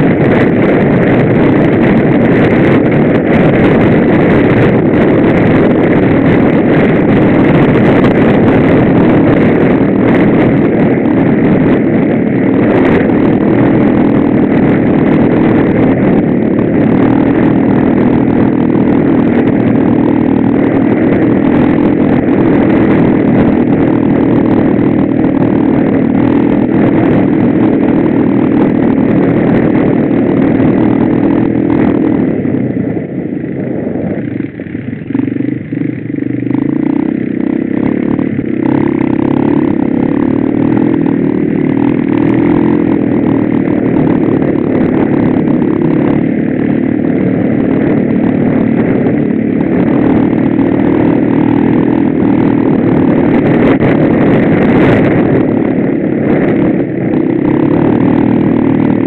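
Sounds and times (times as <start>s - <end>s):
motorcycle engine revving high: 0.0s - 59.0s.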